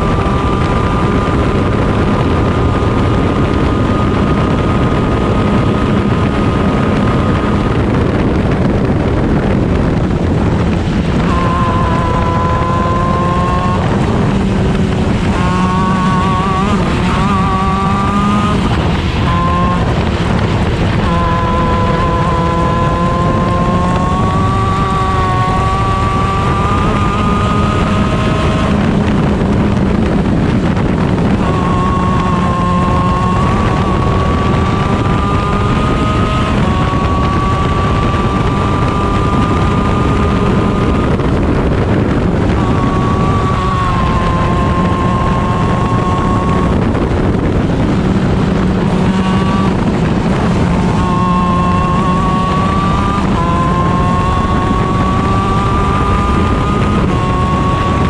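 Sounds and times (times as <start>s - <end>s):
kart engine at high revs: 0.0s - 58.0s
wind noise on microphone: 0.0s - 58.0s.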